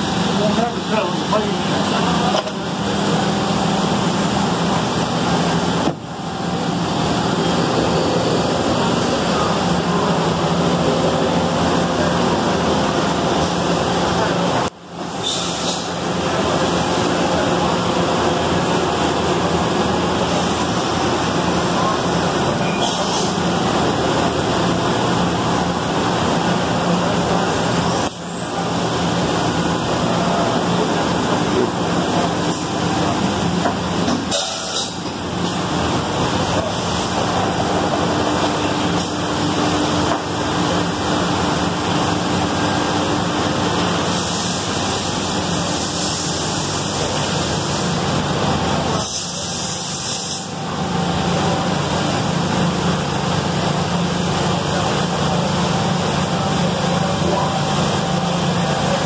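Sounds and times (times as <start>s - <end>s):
machine shop hiss: 0.0s - 24.3s, 24.9s - 59.0s.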